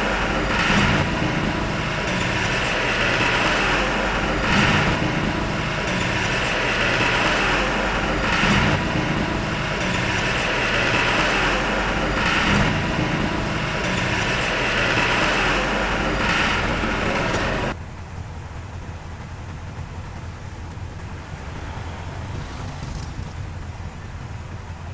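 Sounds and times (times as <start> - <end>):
diesel machine engine under load: 0.0 - 24.9.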